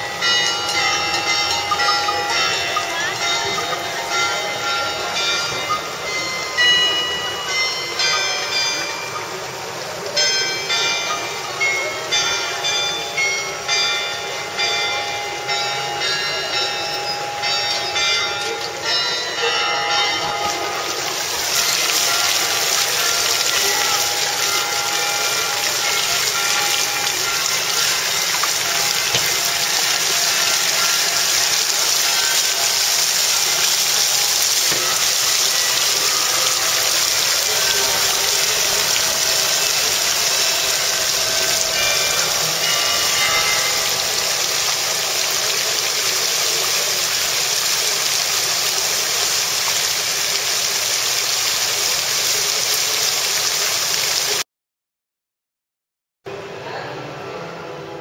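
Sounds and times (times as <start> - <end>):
fountain water splashing: 0.0 - 54.4.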